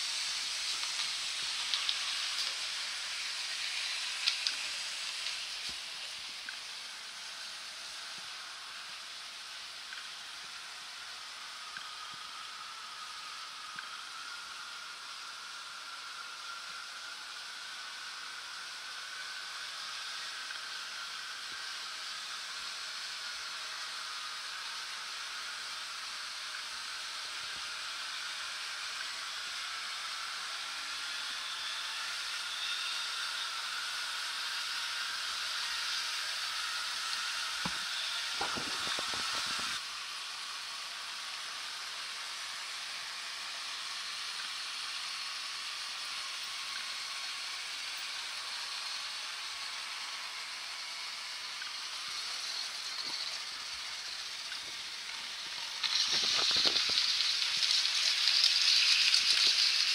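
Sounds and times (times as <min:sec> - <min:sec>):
model railcar motor whirring: 0:00.0 - 0:59.9.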